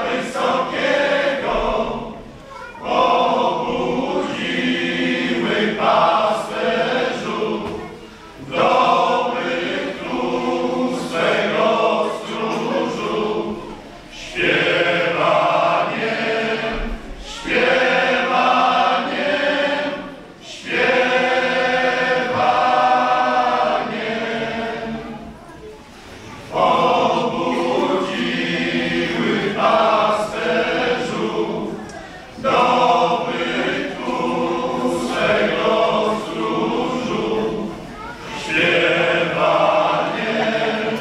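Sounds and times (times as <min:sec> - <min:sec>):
men's choir singing a cappella: 0:00.0 - 0:25.4, 0:26.0 - 0:41.0.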